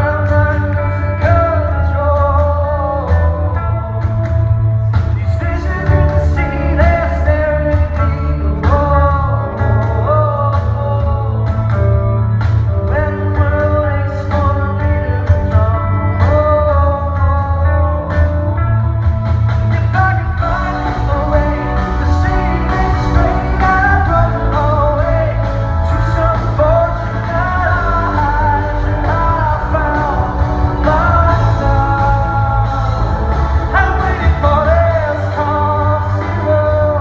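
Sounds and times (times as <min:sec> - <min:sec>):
man singing lead vocal: 0:00.0 - 0:19.0, 0:19.6 - 0:37.0
live rock band playing: 0:00.0 - 0:37.0.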